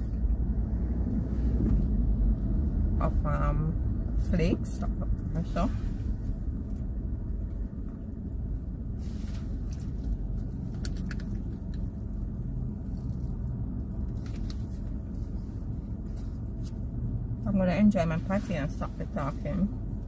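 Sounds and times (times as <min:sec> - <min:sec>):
car cabin rumble: 0:00.0 - 0:20.0.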